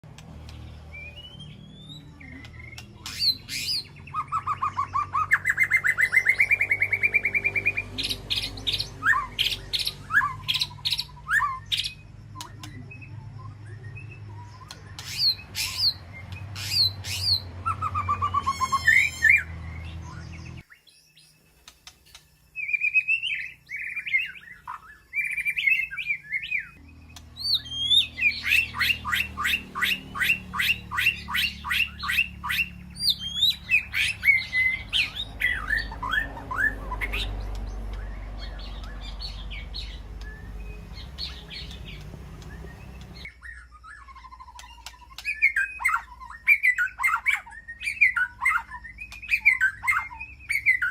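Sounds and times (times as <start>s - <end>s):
bird singing whistled trills: 0.5s - 50.9s.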